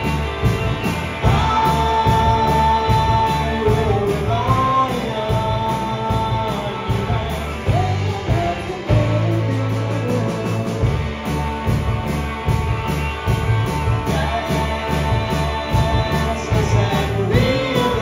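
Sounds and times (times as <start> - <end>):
bass guitar: 0.0 - 18.0
drum kit cymbal beat: 0.0 - 18.0
electric guitars: 0.0 - 18.0
person singing: 1.2 - 11.8, 13.6 - 18.0.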